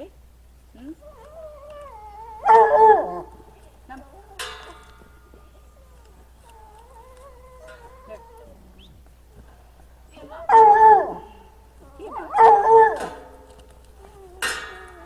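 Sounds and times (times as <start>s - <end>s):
animal calling: 0.8s - 15.0s.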